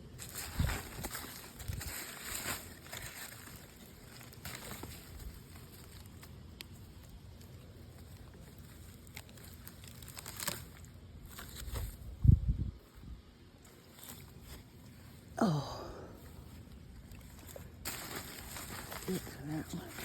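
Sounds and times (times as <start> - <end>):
hands rustling through soil: 0.0 - 20.0.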